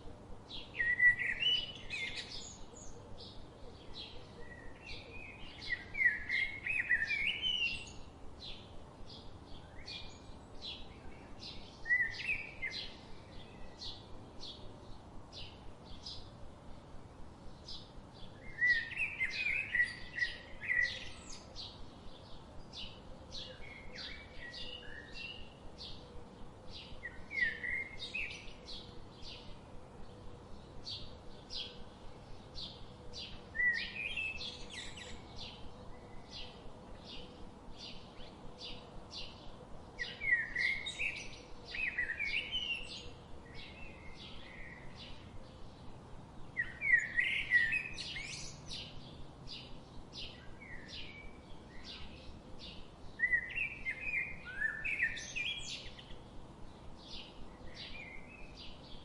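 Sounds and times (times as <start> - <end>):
bird warbling song: 0.5 - 16.4, 17.5 - 59.0.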